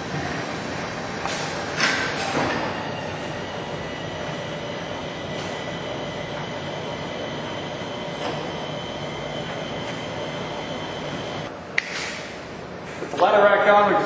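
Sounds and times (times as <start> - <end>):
ladder rack motor whining: 0.0 - 11.5.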